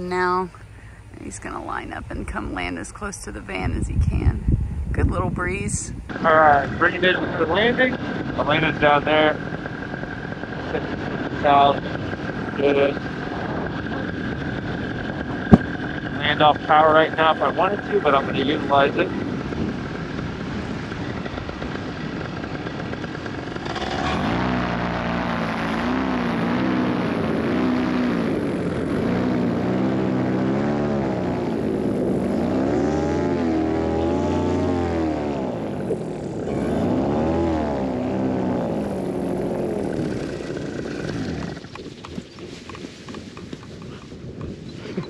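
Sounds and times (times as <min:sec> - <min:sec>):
paramotor engine and propeller: 0:00.0 - 0:45.0.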